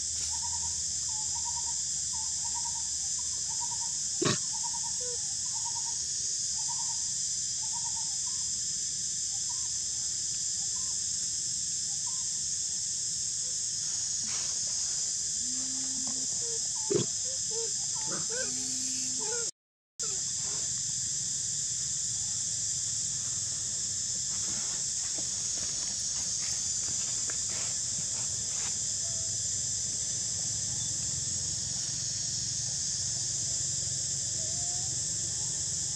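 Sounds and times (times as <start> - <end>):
insects droning: 0.0 - 35.9.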